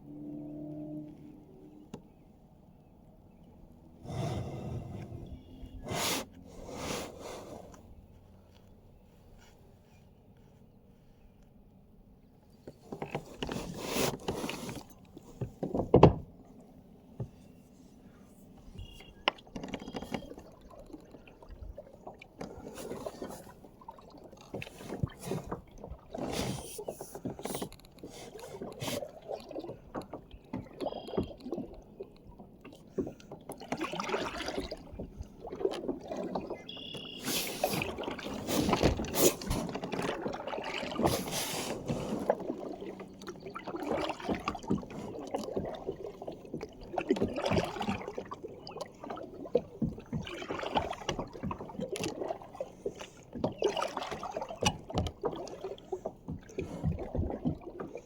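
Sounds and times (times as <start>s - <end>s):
water splashing around kayak: 0.0s - 58.0s.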